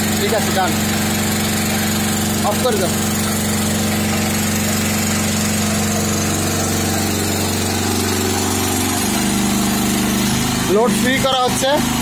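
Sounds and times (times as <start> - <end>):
generator humming: 0.0 - 12.0.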